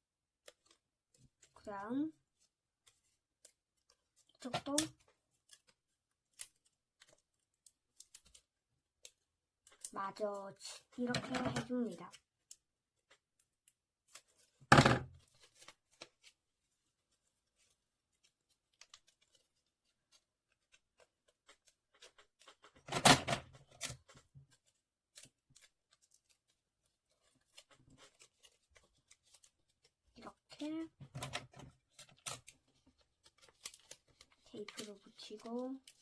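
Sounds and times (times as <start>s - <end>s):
paper rustling: 0.4s - 36.0s.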